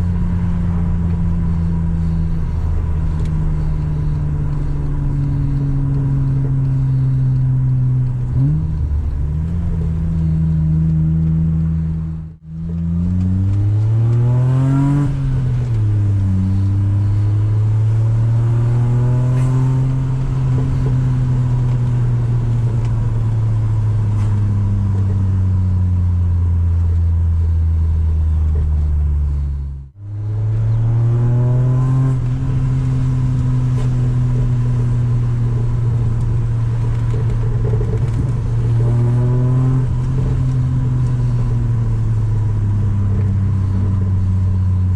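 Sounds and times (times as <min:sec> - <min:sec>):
car engine revving while driving: 0:00.0 - 0:44.9.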